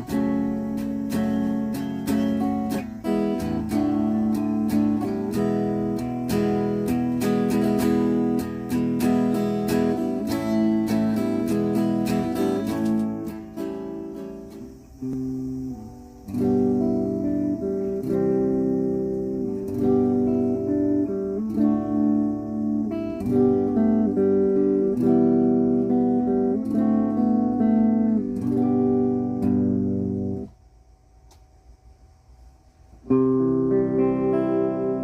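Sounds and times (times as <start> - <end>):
guitar strummed chords: 0.0 - 30.6, 33.0 - 35.0.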